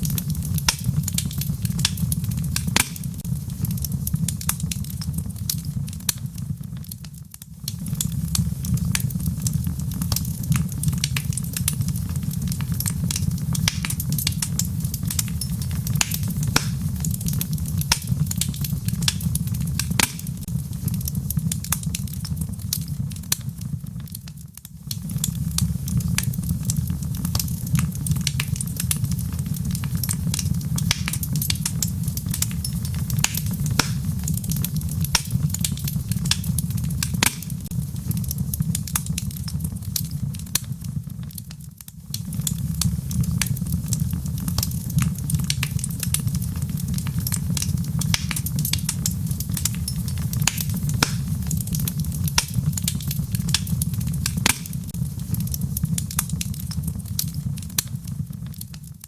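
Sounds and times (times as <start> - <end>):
fire roaring: 0.0 - 59.0
logs crackling and popping: 0.0 - 59.0.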